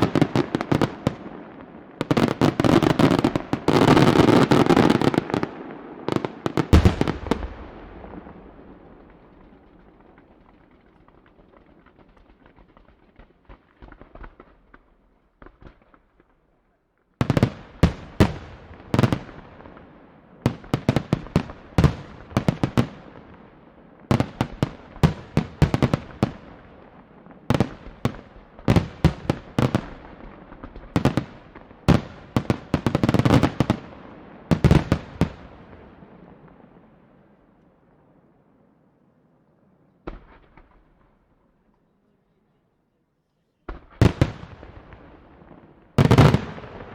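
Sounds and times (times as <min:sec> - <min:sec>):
faint firework crackle: 0:00.0 - 0:46.9.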